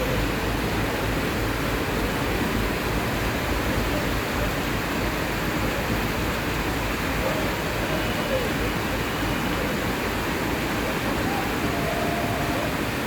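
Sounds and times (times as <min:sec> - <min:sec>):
train rushing through floodwater: 0:00.0 - 0:13.0.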